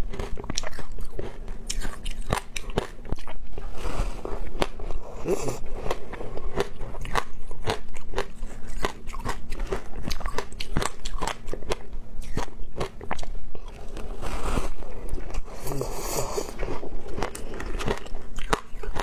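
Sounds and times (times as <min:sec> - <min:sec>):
crunching and chewing ice: 0:00.0 - 0:19.0.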